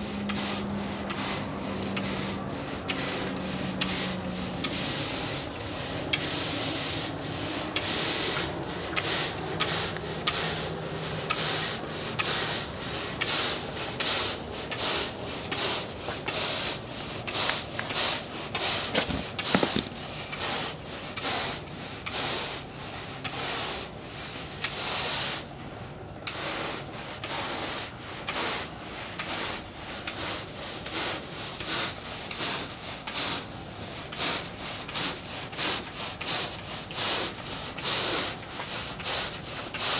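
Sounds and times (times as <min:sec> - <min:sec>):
push broom scrubbing turf: 0:00.0 - 0:25.6, 0:26.2 - 0:39.9.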